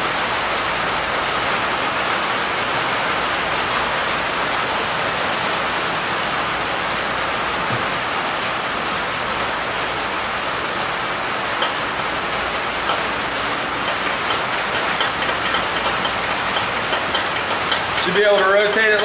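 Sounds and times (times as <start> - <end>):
heavy rain on a roof: 0.0 - 19.0.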